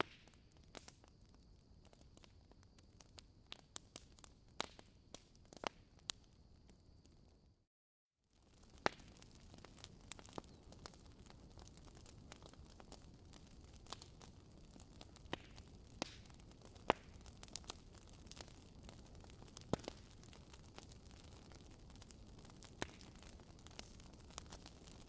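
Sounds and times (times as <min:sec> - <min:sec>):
wood fire crackling and popping: 0:00.0 - 0:07.2, 0:08.4 - 0:25.0.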